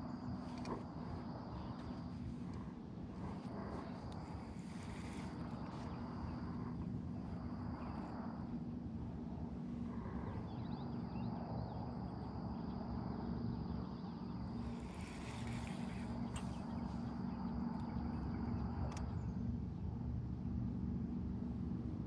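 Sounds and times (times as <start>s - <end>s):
insect buzz: 0.0s - 20.4s
boat motor humming: 0.0s - 21.4s.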